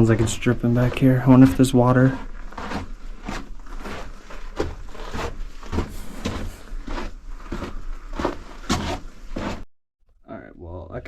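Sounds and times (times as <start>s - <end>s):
footsteps in a stone tunnel: 0.0s - 9.7s.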